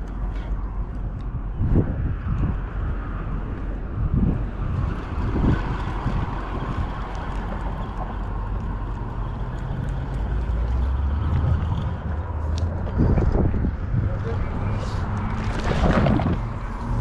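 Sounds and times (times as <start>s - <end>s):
wind buffeting microphone: 0.6s - 17.0s.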